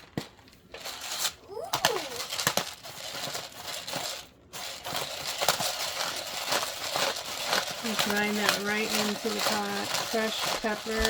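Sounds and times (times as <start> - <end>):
pepper mill grinding: 0.8 - 11.0.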